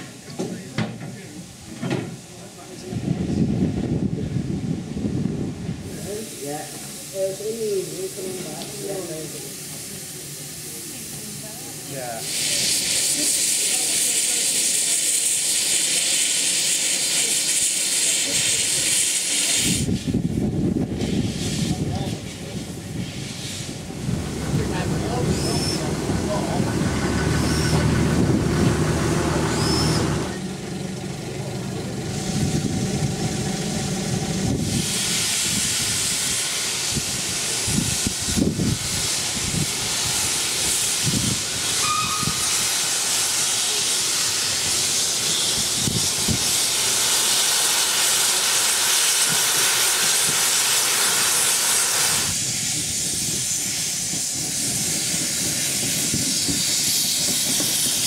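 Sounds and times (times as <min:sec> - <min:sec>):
steam hissing loudly: 0:00.0 - 0:58.0.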